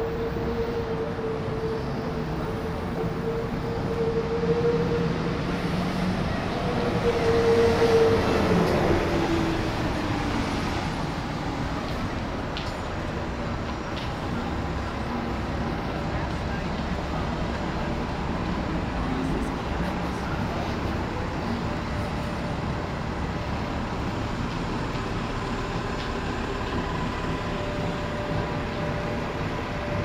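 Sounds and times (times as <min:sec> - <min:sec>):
high vehicle whine: 0:00.0 - 0:30.0
rumble of passing vehicles: 0:00.0 - 0:30.0.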